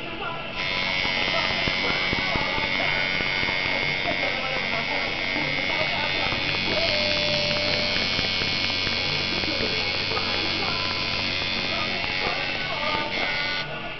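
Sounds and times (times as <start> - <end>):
tattoo machine buzzing: 0.0 - 13.9.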